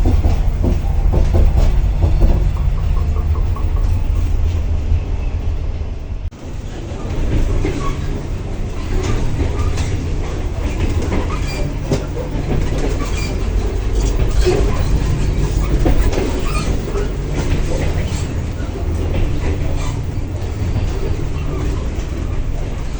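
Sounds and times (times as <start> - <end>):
train rumble: 0.0 - 22.9.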